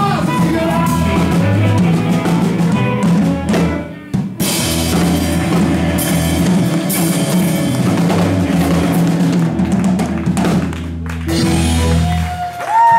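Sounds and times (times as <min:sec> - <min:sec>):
drum kit: 0:00.0 - 0:12.9
electric bass: 0:00.0 - 0:12.9
electric guitar: 0:00.0 - 0:12.9.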